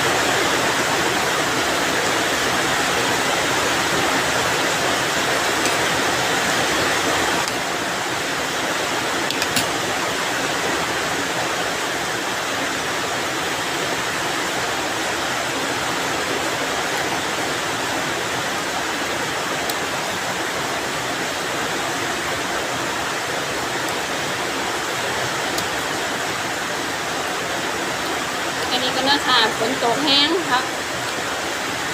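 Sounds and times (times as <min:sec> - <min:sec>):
rain falling steadily: 0:00.0 - 0:31.9.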